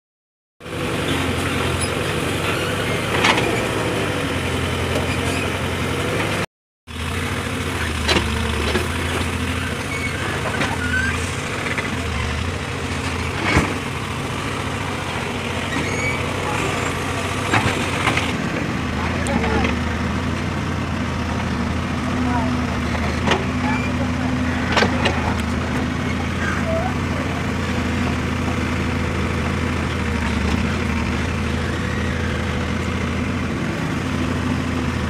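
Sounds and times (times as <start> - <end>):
diesel engine running: 0.6 - 35.0.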